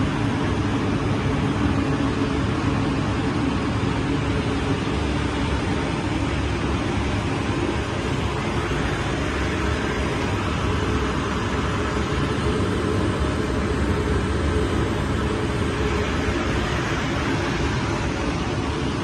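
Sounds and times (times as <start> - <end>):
steady industrial machine noise: 0.0 - 19.0.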